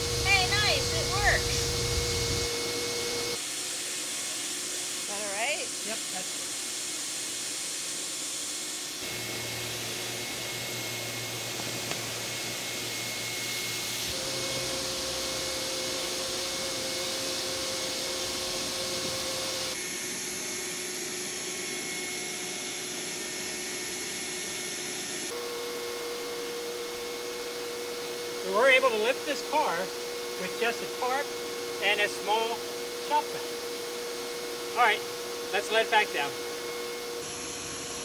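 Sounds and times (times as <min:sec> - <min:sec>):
shop vacuum running: 0:00.0 - 0:38.0.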